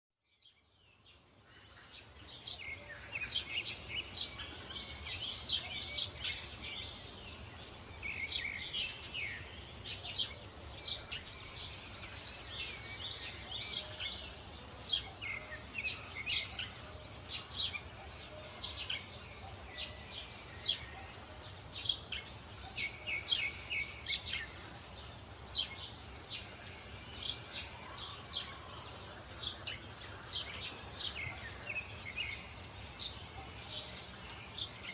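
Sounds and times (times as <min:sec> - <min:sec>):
birds chirping and trilling: 0:00.3 - 0:34.9.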